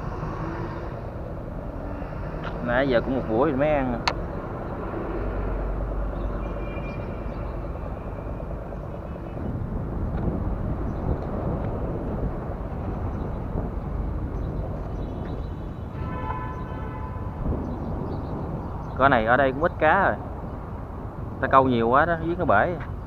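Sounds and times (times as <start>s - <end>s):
distant engines rumbling: 0.0s - 23.0s.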